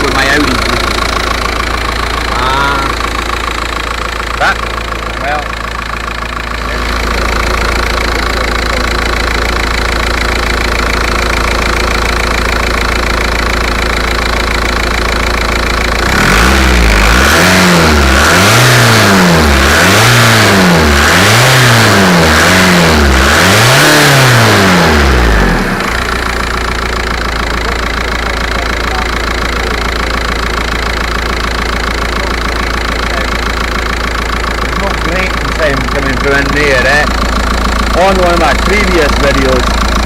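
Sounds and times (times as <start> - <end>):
diesel engine idling and revving: 0.0 - 40.0.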